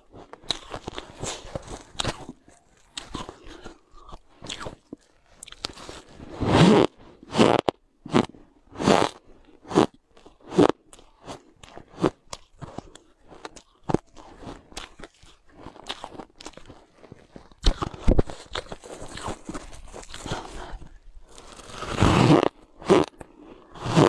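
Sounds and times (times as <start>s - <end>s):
person crunching ice: 0.0s - 24.0s.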